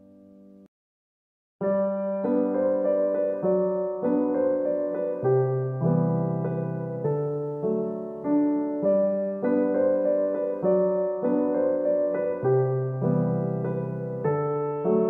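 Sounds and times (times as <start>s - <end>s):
gentle piano music: 0.0s - 0.7s, 1.6s - 15.0s.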